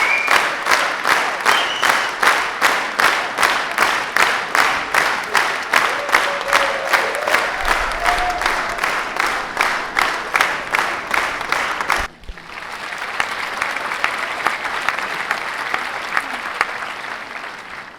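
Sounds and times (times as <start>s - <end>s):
crowd applauding: 0.0s - 17.9s
smooth steady applause: 0.0s - 17.9s.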